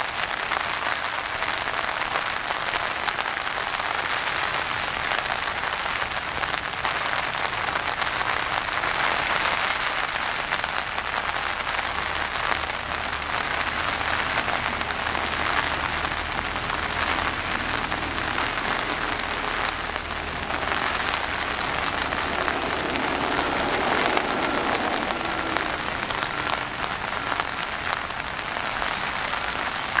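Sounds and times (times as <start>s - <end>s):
rain on water and mud: 0.0s - 30.0s.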